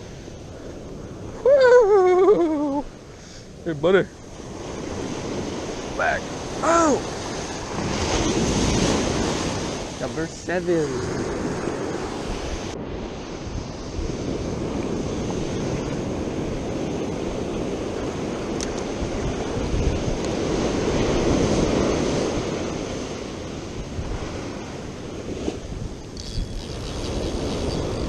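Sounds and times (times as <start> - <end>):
ocean surf washing onto beach: 0.0 - 28.0
wind buffeting microphone: 4.3 - 28.0.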